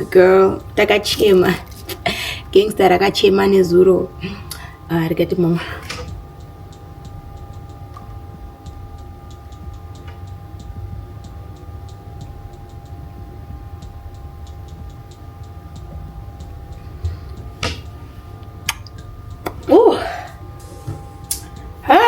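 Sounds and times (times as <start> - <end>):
light ticking clicks: 0.0 - 19.7, 20.3 - 21.8
faint steady tones: 0.0 - 22.0
low hum: 0.0 - 22.0.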